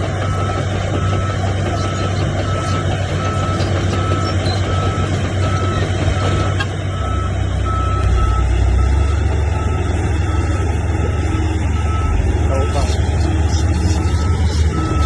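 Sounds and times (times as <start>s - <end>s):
diesel machine engine rumble: 0.0s - 15.0s
reversing alarm beeping: 0.2s - 15.0s.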